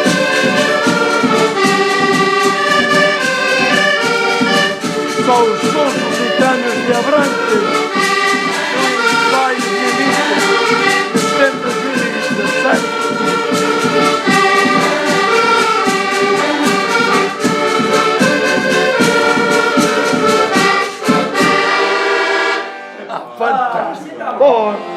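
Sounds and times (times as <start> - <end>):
live band playing: 0.0 - 24.9.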